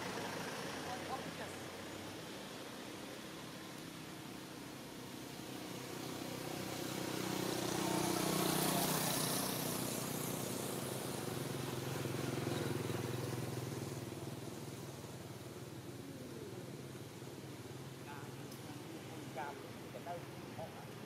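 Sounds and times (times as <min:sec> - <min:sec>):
vehicle engine passing by: 0:00.0 - 0:03.6, 0:05.1 - 0:21.0.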